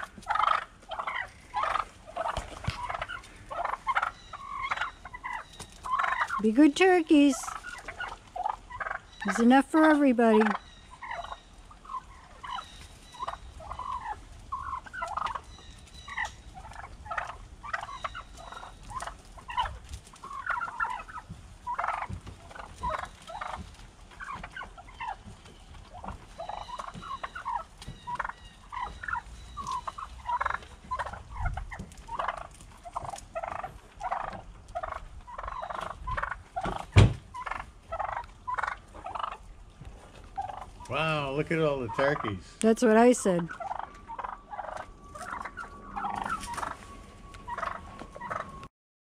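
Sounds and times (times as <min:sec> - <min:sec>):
wild turkeys calling: 0:00.0 - 0:48.7.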